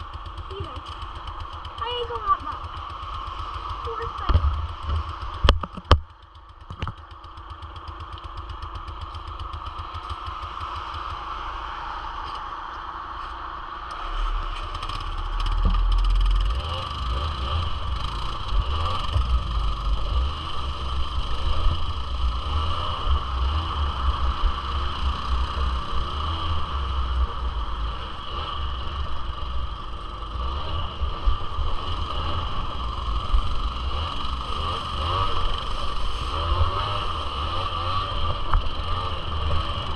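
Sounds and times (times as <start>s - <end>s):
two-stroke quad engine running: 0.0s - 39.9s.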